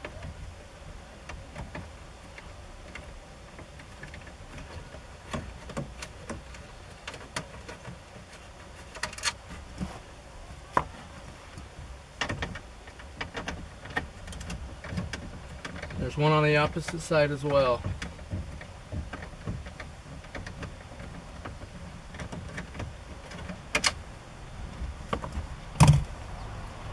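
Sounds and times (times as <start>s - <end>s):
low steady rumble: 0.0s - 26.9s.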